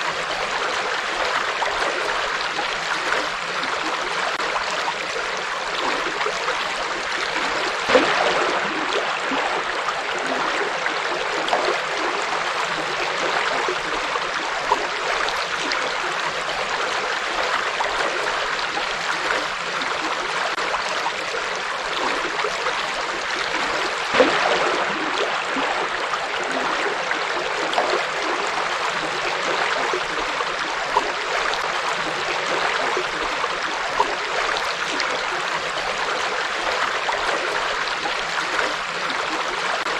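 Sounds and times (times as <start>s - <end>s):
water splashing: 0.0s - 39.9s.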